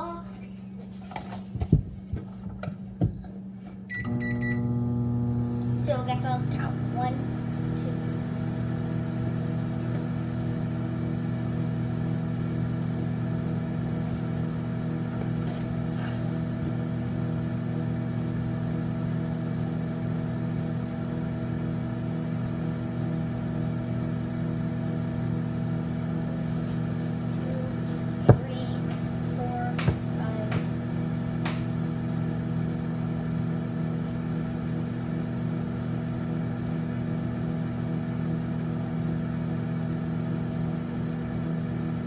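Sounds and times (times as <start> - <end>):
microwave oven humming: 0.0 - 42.0.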